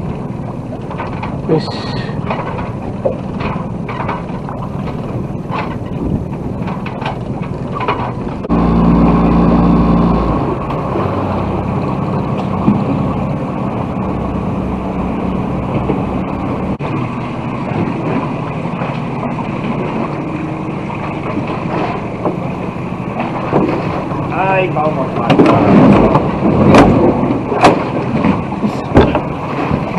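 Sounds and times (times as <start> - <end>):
boat motor running: 0.0 - 29.9
water noise: 0.0 - 29.9
wind: 0.0 - 29.9.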